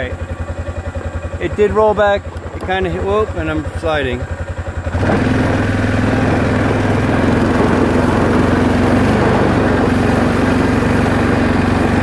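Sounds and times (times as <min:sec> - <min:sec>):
atv engine running under load: 0:00.0 - 0:12.0.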